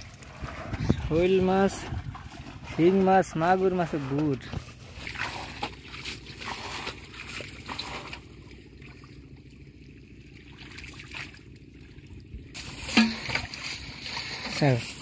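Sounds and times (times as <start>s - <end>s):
muddy water trickling and sloshing: 0.0s - 15.0s
small splashes: 0.0s - 15.0s.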